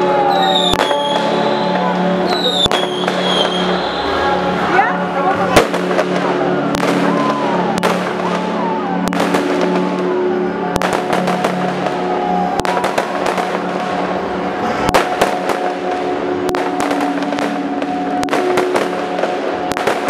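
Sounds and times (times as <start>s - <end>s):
fireworks bangs and crackles: 0.0s - 20.0s
music with held notes: 0.0s - 20.0s.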